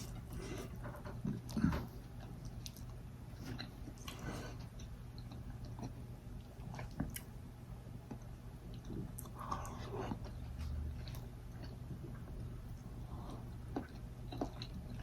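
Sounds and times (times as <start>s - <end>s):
chewing and biting food: 1.2s - 7.3s, 8.1s - 15.0s.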